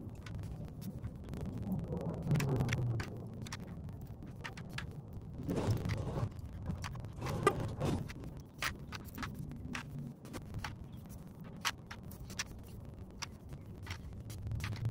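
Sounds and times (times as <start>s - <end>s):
rustling of small parts: 0.0s - 14.9s.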